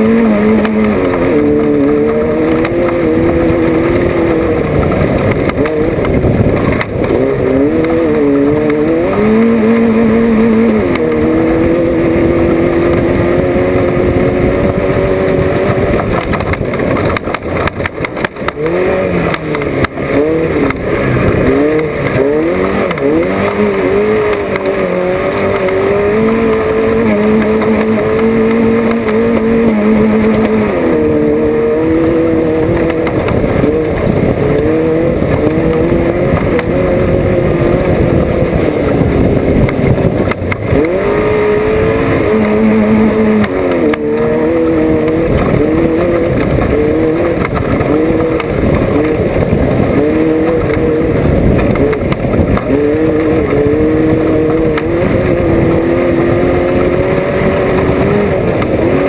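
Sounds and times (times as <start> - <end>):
race vehicle engine revving: 0.0 - 59.0.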